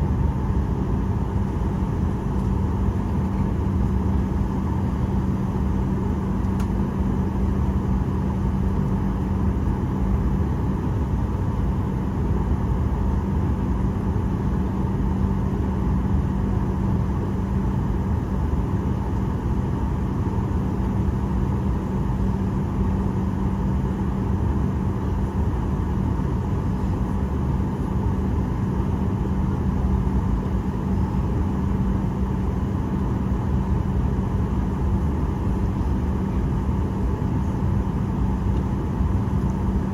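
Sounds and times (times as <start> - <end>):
constant low hum: 0.0 - 39.9
jet engine and airflow rumble: 0.0 - 39.9.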